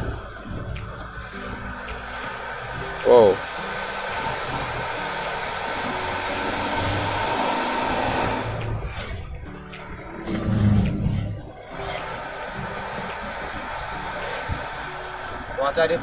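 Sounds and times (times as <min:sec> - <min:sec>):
airy whooshing rush: 0:00.0 - 0:16.0.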